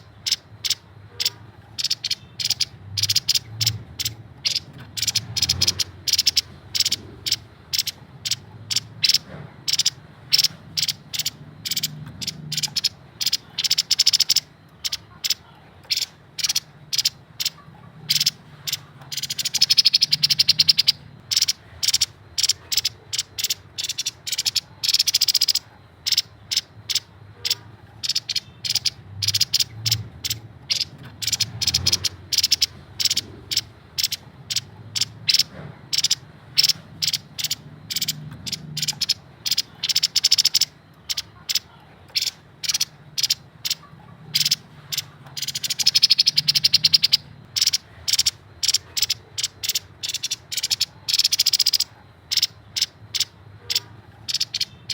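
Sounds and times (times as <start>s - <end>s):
bird singing rapid sharp notes: 0.0s - 54.9s.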